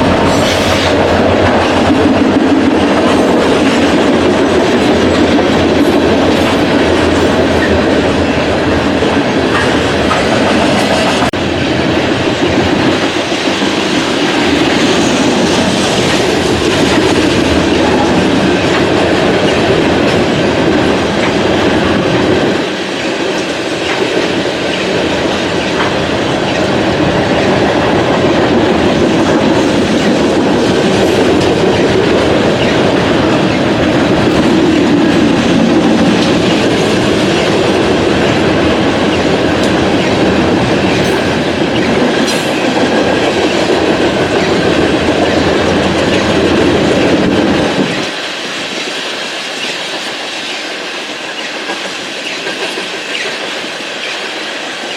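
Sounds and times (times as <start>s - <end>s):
train wheels on rail: 0.0s - 54.9s.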